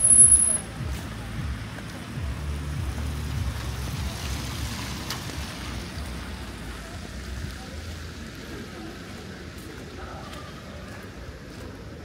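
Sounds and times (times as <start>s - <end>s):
low traffic rumble: 0.0s - 12.0s
tyre hiss on wet street: 0.0s - 12.0s.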